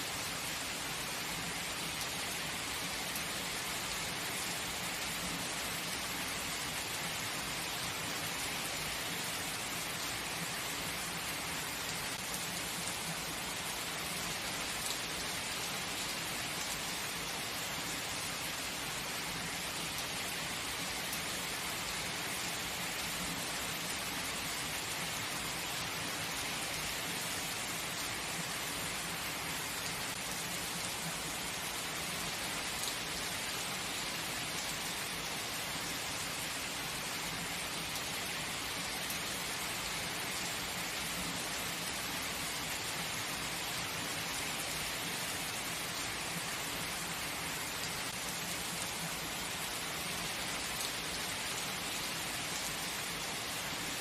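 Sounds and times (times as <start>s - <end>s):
heavy rain pattering on surfaces: 0.0s - 54.0s.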